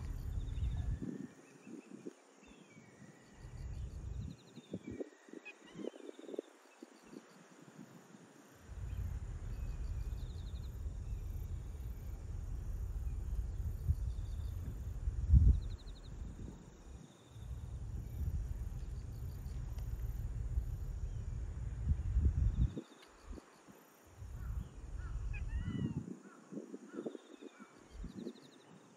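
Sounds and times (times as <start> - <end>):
wind buffeting microphone: 0.0 - 28.5
insect trills: 0.0 - 28.9.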